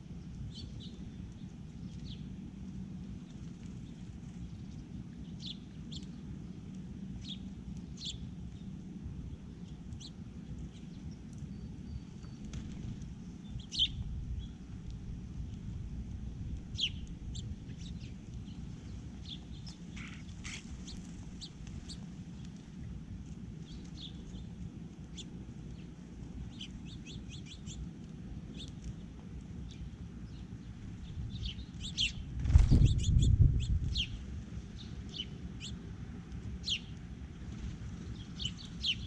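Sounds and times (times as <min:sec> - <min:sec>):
low background rumble: 0:00.0 - 0:39.0
small birds chirping: 0:00.0 - 0:39.0.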